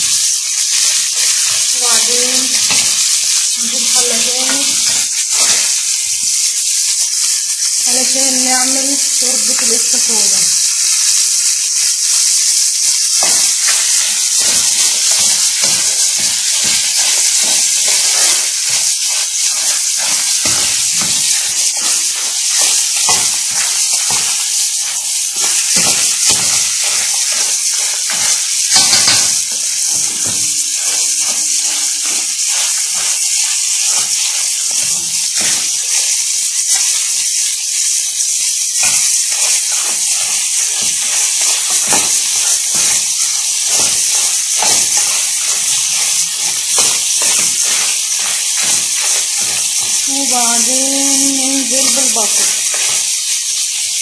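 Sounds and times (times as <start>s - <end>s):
crayfish sizzling in oil: 0.0s - 54.0s.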